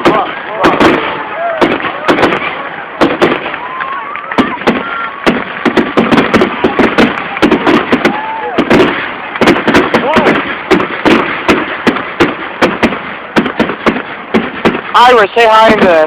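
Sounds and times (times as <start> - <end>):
fireworks bangs and pops: 0.0 - 16.0
fireworks crackling: 0.0 - 16.0.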